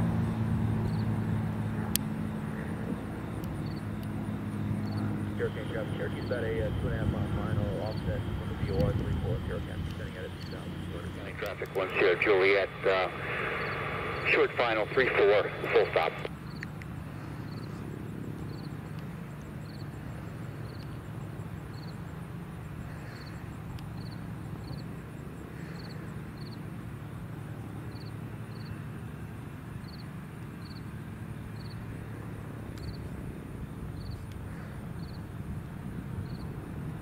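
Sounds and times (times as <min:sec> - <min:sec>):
airplane piston engine drone: 0:00.0 - 0:37.0.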